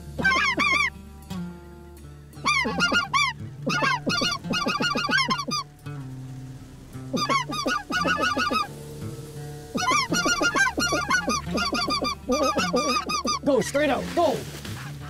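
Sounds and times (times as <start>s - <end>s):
geese honking: 0.0s - 1.0s, 2.4s - 14.1s.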